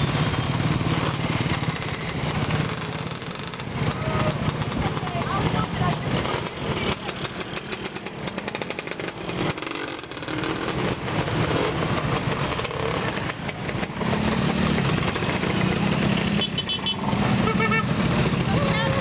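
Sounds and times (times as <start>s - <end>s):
motor scooters riding past: 0.0s - 19.0s.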